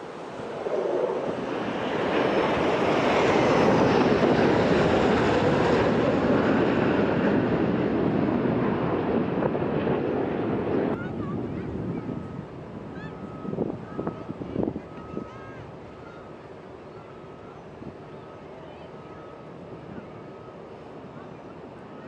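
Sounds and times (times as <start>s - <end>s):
jet planes passing overhead: 0.0s - 22.0s.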